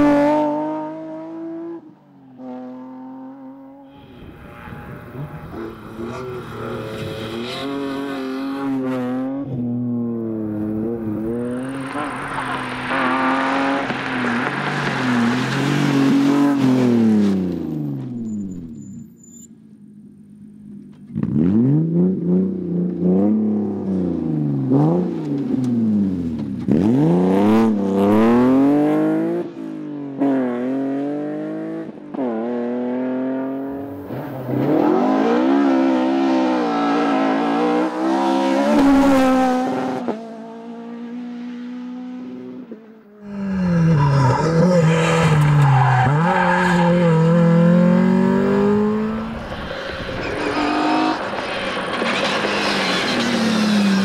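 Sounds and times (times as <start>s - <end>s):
rally car engines revving: 0.0s - 19.0s, 21.0s - 54.0s
car accelerating and shifting: 0.0s - 19.3s, 20.0s - 54.0s.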